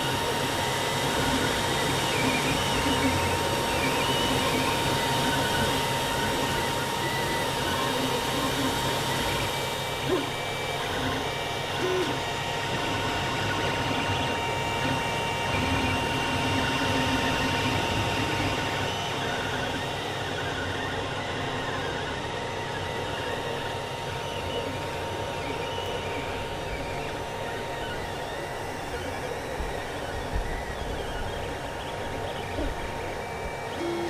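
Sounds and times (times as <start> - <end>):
cooling fans whirring: 0.0 - 34.0
stepper motors whining: 0.0 - 34.0.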